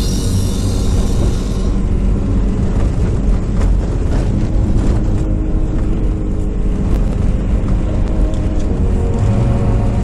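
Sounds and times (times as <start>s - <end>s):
car engine and tyre drone: 0.0s - 10.0s.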